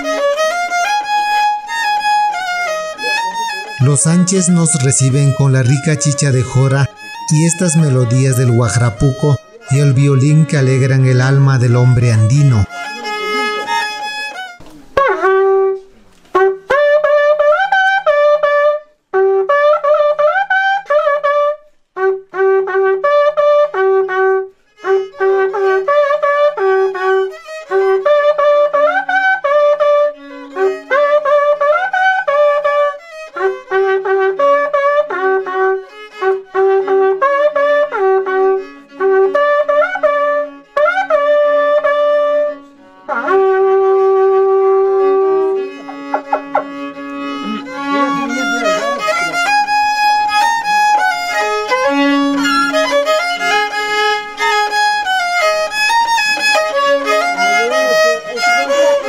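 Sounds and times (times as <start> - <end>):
horn trumpet playing melody: 2.4 - 59.0.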